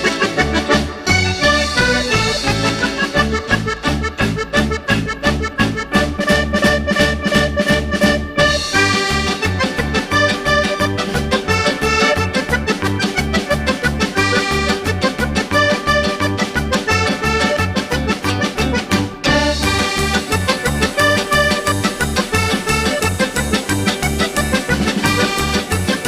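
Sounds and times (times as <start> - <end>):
upbeat accordion music: 0.0 - 26.0.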